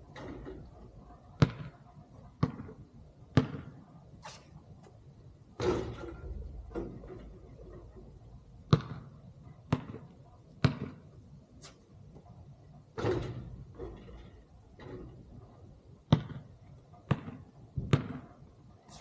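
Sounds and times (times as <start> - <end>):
basketball bouncing on hard ground: 0.1 - 3.9, 5.6 - 7.5, 8.6 - 12.2, 12.9 - 19.0.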